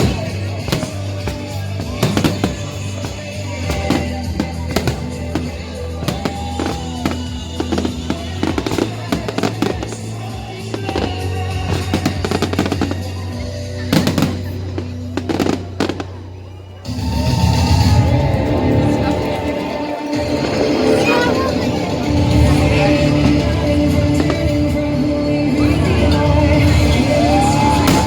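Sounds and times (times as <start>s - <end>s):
background music: 0.0s - 28.0s
fireworks bangs and crackles: 0.0s - 28.0s.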